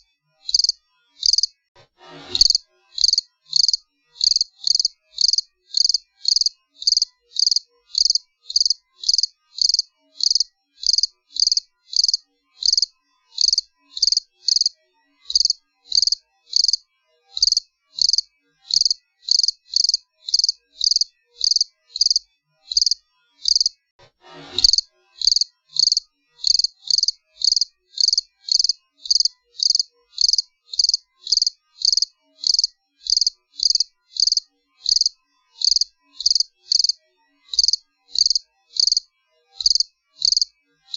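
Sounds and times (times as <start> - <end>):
cricket chirping: 0.5 - 1.5, 2.4 - 14.7, 15.3 - 16.8, 17.4 - 23.7, 24.6 - 39.0, 39.6 - 40.5.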